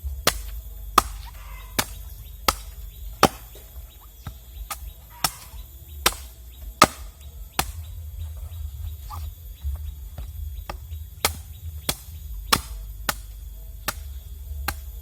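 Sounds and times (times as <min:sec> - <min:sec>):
blade chopping: 0:00.0 - 0:15.0.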